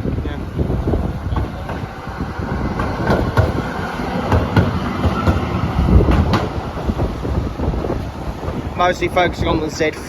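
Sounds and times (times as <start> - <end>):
tram rumbling along track: 0.0 - 10.0
wheels clicking over rail joints: 0.0 - 10.0.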